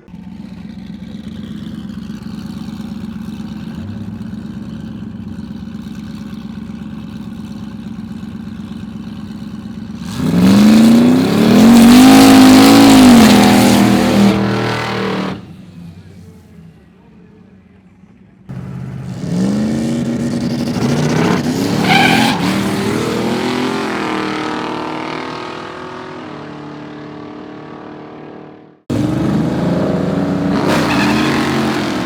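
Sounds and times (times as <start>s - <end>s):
drag car engine revving: 0.0s - 16.9s, 18.5s - 32.0s.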